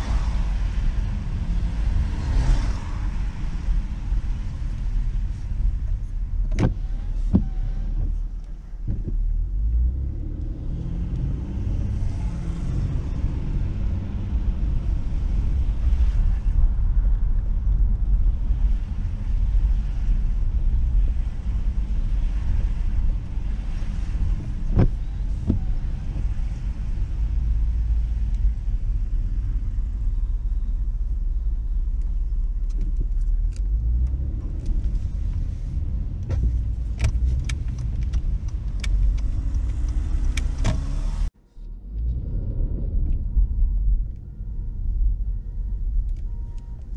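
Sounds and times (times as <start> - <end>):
car driving on wet pavement: 0.0 - 46.9.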